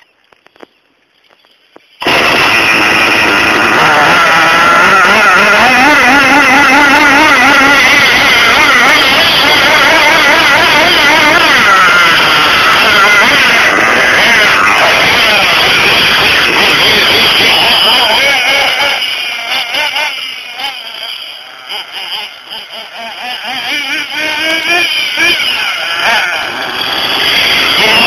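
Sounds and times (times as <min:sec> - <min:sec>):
model car nitro engine idling: 0:02.0 - 0:28.0.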